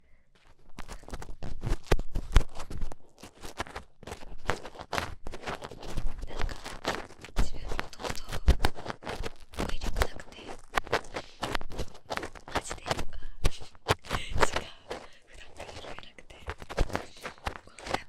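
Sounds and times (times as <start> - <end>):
taps scratches and rustles: 0.4 - 18.0.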